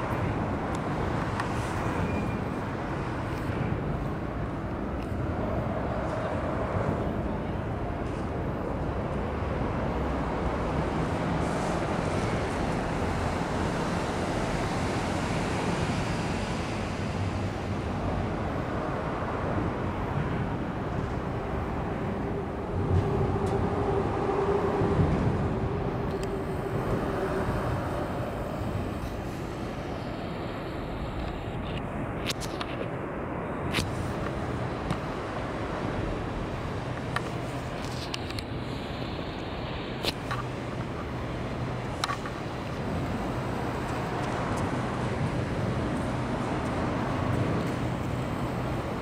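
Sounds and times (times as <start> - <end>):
city background rumble: 0.0 - 49.0.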